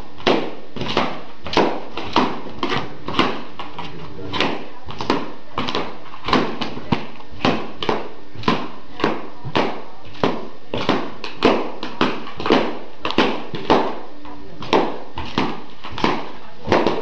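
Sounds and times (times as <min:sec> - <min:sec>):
balloons popping: 0:00.0 - 0:17.0.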